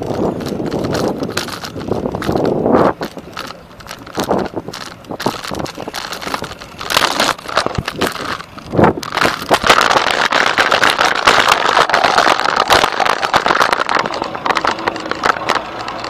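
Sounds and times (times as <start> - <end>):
bicycle rattling and rushing: 0.0 - 16.0.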